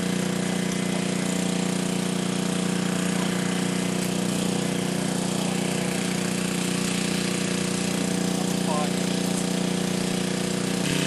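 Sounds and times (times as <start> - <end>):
motor droning steadily: 0.0 - 11.0.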